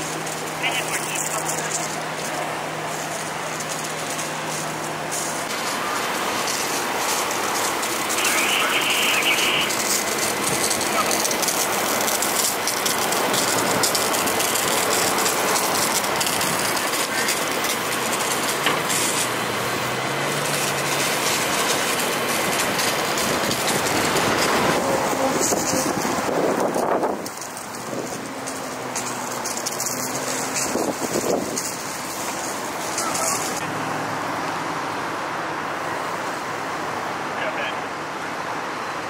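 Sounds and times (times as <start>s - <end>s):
fire engine humming: 0.0s - 39.0s
fire hoses spraying water: 0.0s - 39.0s.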